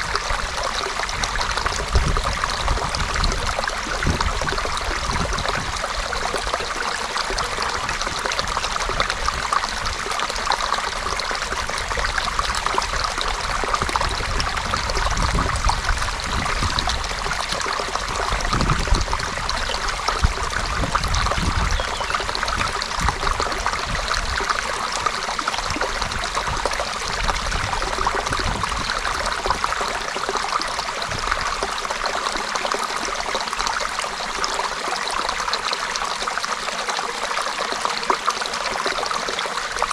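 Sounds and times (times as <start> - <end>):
stream water over stones: 0.0 - 39.9.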